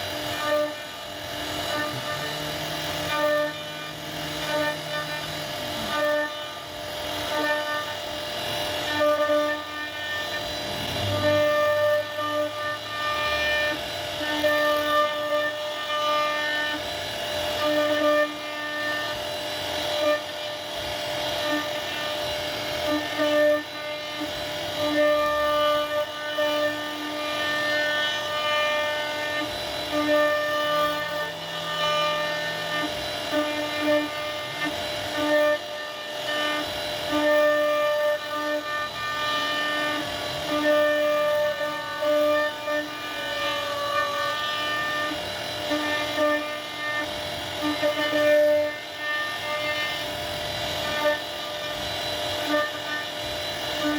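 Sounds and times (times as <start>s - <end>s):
bit carving wood: 0.0s - 53.9s
router spindle whining: 0.0s - 53.9s.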